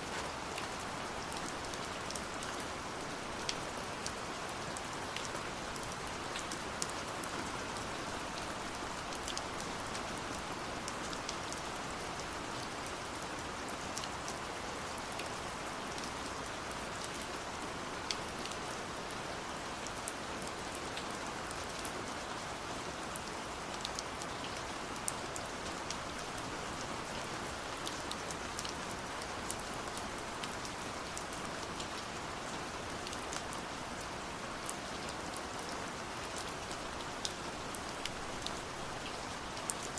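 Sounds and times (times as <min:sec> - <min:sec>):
steady rain hiss: 0:00.0 - 0:39.9
raindrops ticking on a surface: 0:00.1 - 0:39.9.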